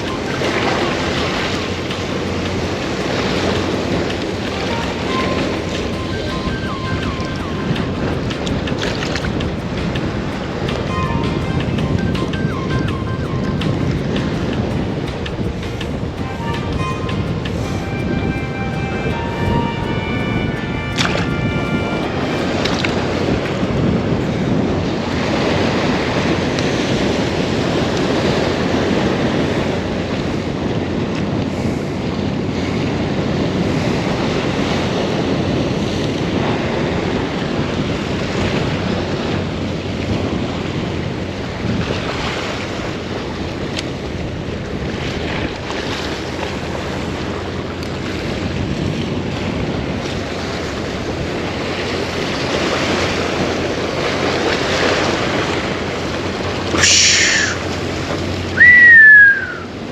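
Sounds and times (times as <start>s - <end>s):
surf washing in and out: 0.0s - 59.9s
wind rumbling on microphone: 0.0s - 59.9s.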